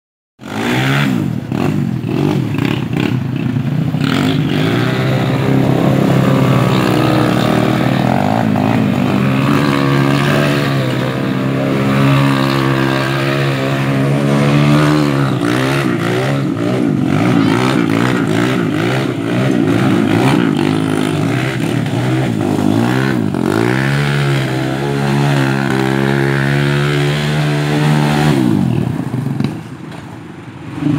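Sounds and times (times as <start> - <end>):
quad bike engine revving: 0.4 - 30.0, 30.6 - 30.9.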